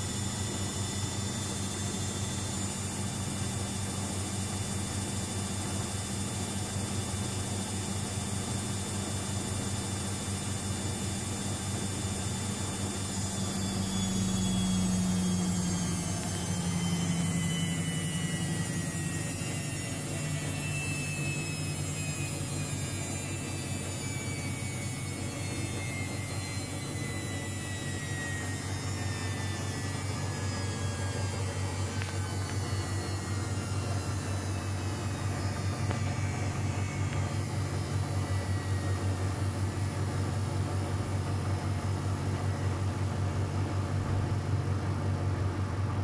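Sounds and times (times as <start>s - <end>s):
washing machine spinning: 0.0s - 46.0s.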